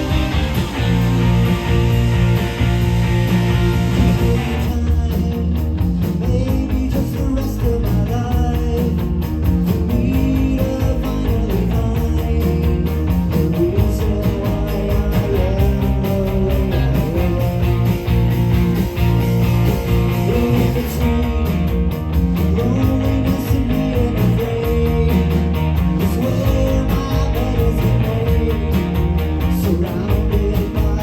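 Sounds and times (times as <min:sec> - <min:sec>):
guitar rock music: 0:00.0 - 0:31.0.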